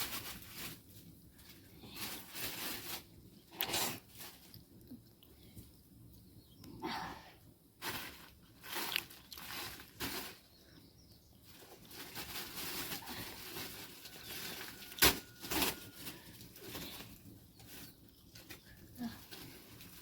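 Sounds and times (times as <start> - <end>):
rustling and scuffing: 0.0 - 4.6, 7.8 - 10.7, 11.4 - 20.0.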